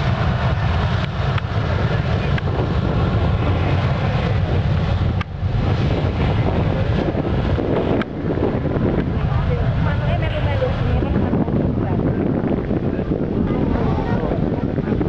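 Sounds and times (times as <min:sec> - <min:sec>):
distant jet engines rumbling: 0:00.0 - 0:15.0
wind buffeting microphone: 0:00.0 - 0:15.0.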